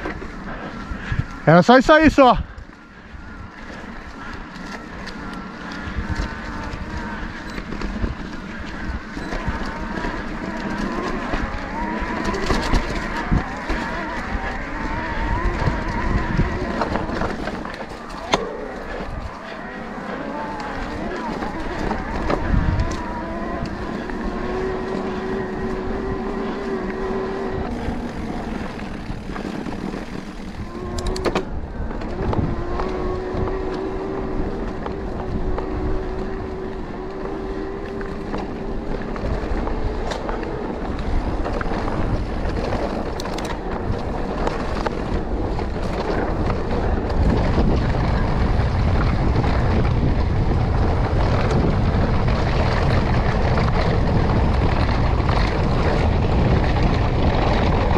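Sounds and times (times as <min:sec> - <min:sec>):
electric bike motor whine: 0:00.0 - 0:57.9
wind on microphone: 0:00.0 - 0:57.9.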